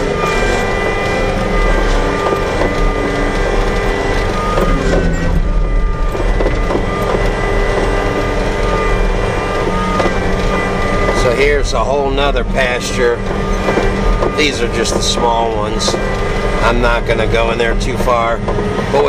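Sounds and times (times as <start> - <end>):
knocks and rattles: 0.0 - 19.0
vehicle engine running: 0.0 - 19.0.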